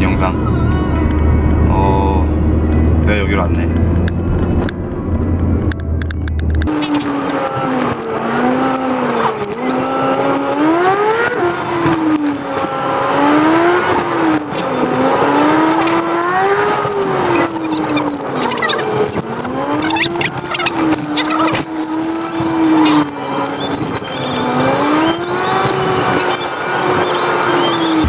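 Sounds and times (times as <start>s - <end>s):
car engine revving: 0.0s - 28.0s
road noise: 0.0s - 28.0s.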